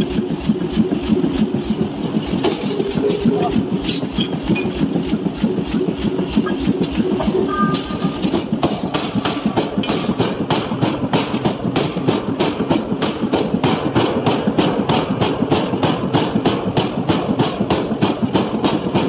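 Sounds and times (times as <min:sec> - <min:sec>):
machinery low rumble: 0:00.0 - 0:19.0.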